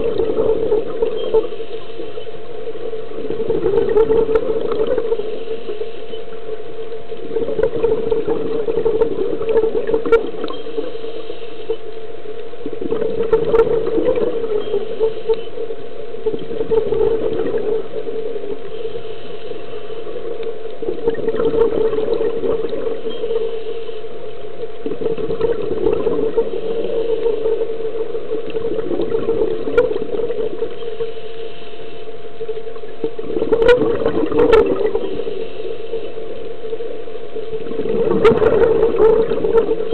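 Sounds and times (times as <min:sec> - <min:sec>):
exhaled bubbles rushing: 0:00.0 - 0:11.0, 0:12.6 - 0:23.6, 0:24.2 - 0:30.9, 0:32.3 - 0:39.9
steady low hum: 0:00.0 - 0:39.9.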